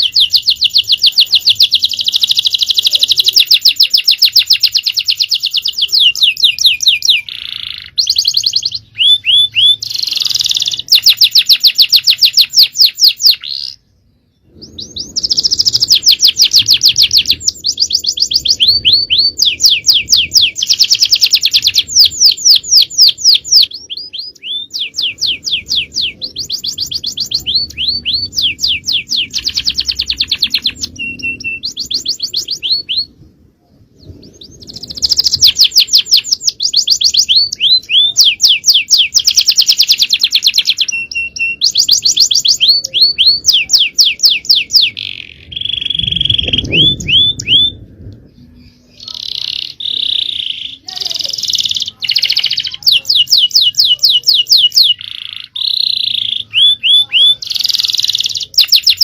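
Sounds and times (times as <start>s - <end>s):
canary singing trills: 0.0s - 33.2s, 34.0s - 59.0s.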